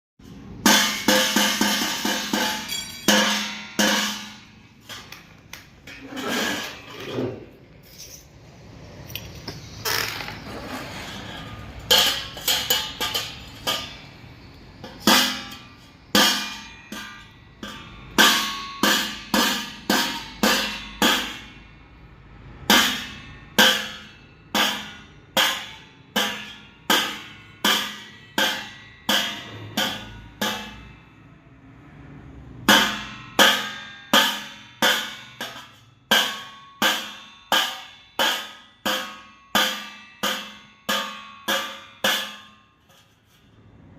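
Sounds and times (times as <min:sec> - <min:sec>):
spoon striking metal plate: 0:00.5 - 0:06.8, 0:11.8 - 0:21.6, 0:22.7 - 0:31.2, 0:32.7 - 0:43.2.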